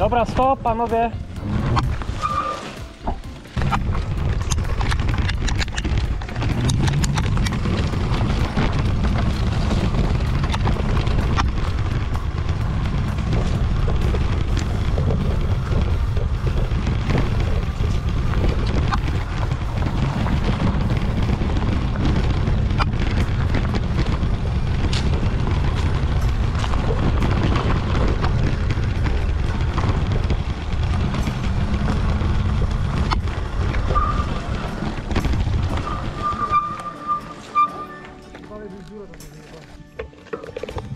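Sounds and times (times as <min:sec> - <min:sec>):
wind rumbling on microphone: 0:00.0 - 0:37.9
bike knocks and rattles: 0:00.0 - 0:40.9.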